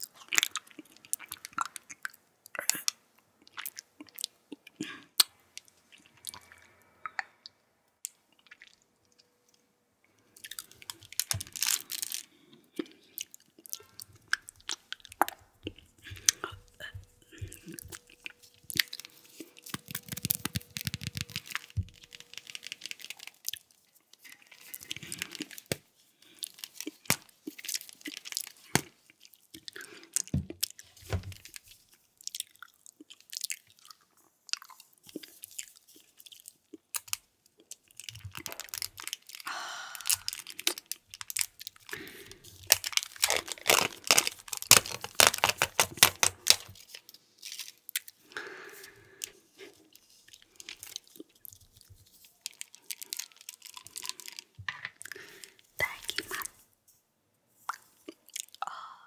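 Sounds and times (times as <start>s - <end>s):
wet chewing and mouth sounds: 0.0s - 56.6s, 57.6s - 58.9s.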